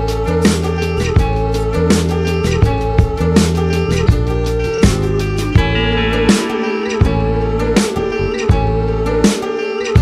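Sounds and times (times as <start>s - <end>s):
guitar tune over a beat: 0.0s - 10.0s.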